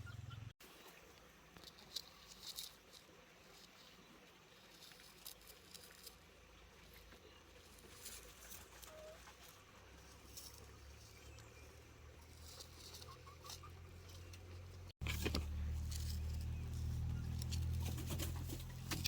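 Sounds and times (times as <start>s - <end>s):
faint clicks and rustles: 0.7s - 19.0s.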